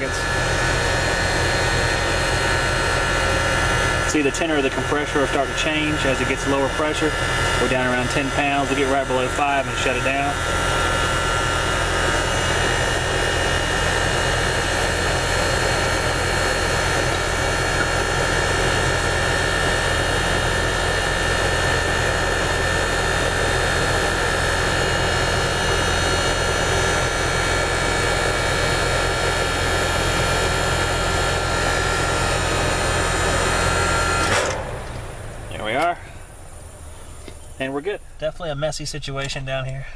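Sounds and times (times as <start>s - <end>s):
air conditioner compressor humming: 0.0s - 39.9s.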